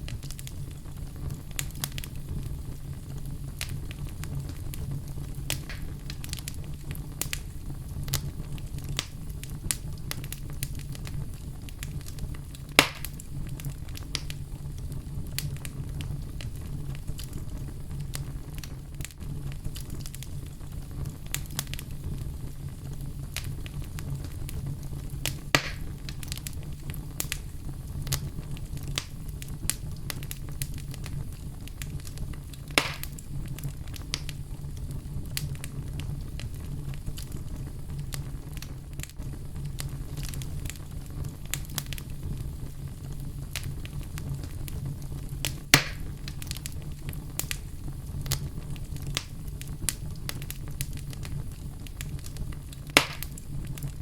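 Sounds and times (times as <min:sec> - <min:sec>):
fire rumbling: 0:00.0 - 0:54.0
loud fire pops: 0:00.0 - 0:54.0
wood fire crackling: 0:00.0 - 0:54.0.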